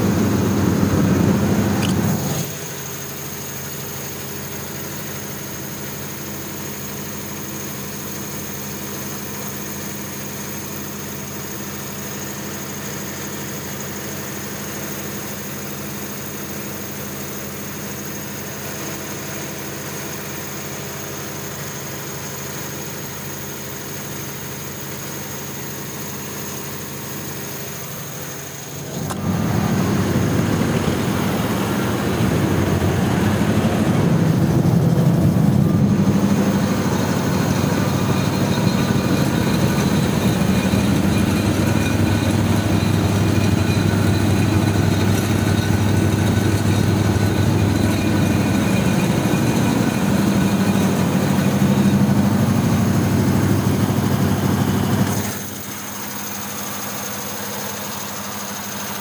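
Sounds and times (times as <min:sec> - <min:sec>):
diesel generator running: 0:00.0 - 0:59.0.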